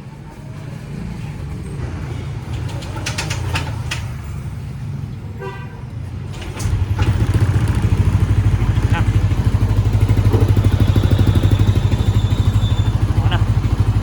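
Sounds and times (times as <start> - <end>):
scooter engine starting and idling: 0.6 - 4.9, 6.1 - 14.0.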